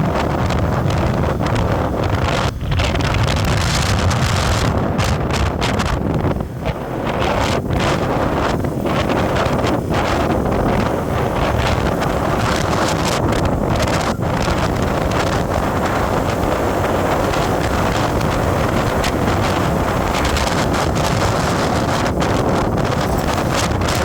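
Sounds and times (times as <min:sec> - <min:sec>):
moving vehicle rumble: 0:00.0 - 0:24.0
wind buffeting microphone: 0:00.0 - 0:24.0.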